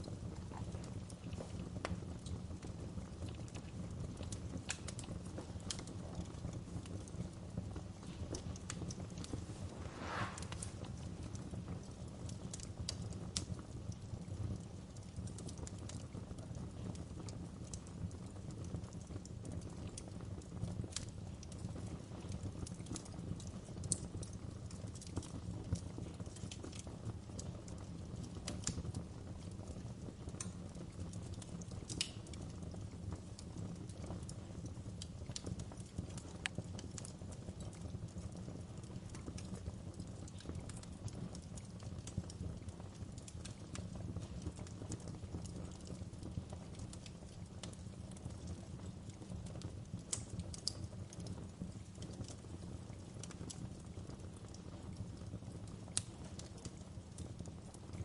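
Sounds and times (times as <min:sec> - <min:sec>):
campfire burning: 0:00.0 - 0:58.0.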